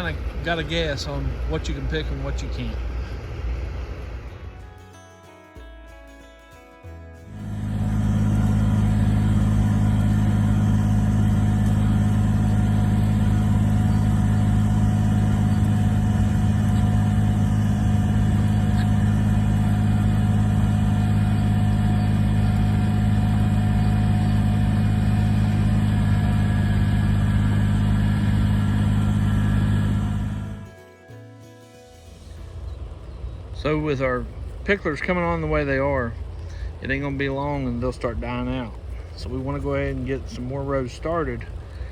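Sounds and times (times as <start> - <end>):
tilling machine engine running: 0.0 - 41.9.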